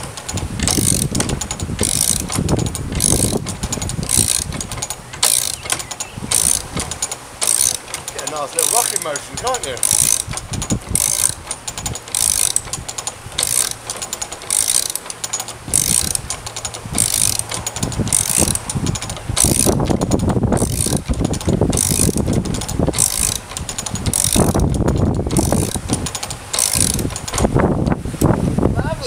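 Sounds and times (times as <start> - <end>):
ratchet clicks rattling: 0.0 - 28.3
heavy low rumble: 0.0 - 29.0.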